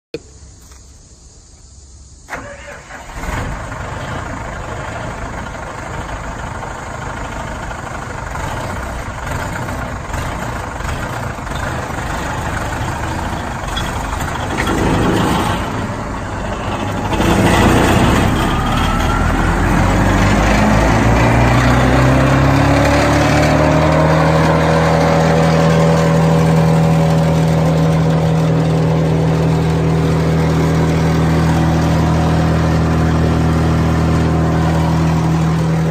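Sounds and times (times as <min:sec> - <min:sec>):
wood chipper engine revving: 0:02.3 - 0:35.9.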